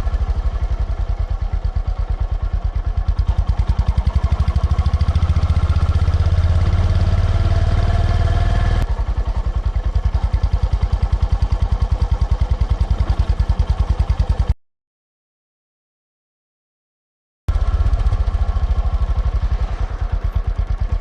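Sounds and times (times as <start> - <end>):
motorcycle engine running: 0.0 - 14.6, 17.5 - 21.0.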